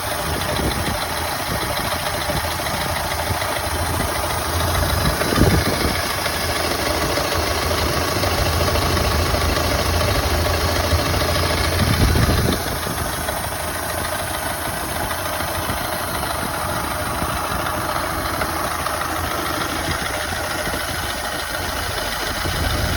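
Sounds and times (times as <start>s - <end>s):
engine idling with misfire: 0.0s - 22.9s.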